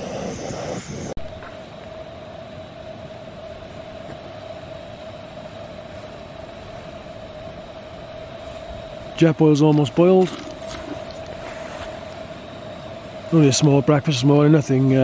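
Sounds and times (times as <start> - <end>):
gas stove hissing: 0.0 - 15.0.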